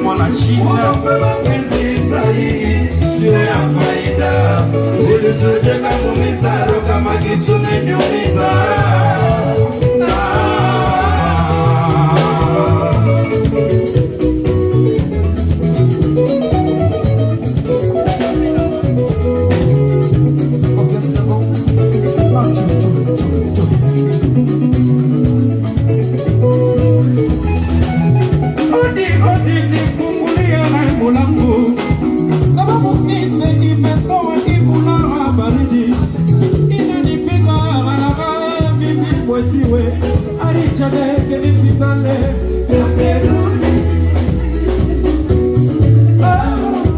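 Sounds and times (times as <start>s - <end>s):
bass guitar line: 0.0s - 46.9s
electric guitar melody: 0.0s - 46.9s
percussion: 0.0s - 46.9s.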